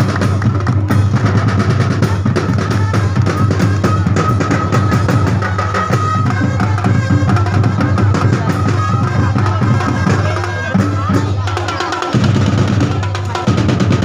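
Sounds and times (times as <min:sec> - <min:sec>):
percussion band drumming: 0:00.0 - 0:14.0.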